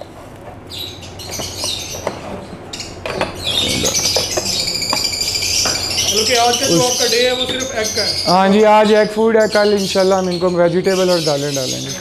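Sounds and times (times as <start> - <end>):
lovebirds chirping and chattering: 0.7 - 12.0.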